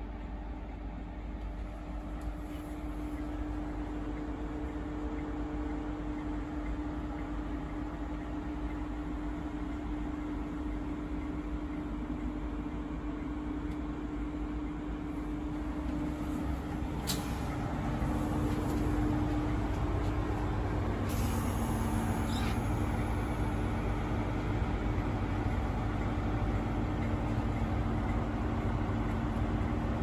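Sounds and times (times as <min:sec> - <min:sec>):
train idling hum: 0:00.0 - 0:30.0.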